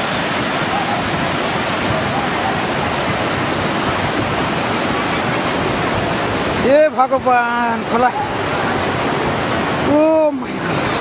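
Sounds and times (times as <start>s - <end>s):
floodwater rushing in a river: 0.0s - 11.0s.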